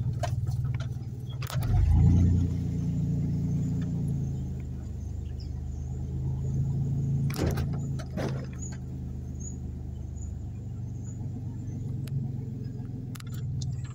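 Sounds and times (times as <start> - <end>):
car engine and road noise: 0.0 - 13.9.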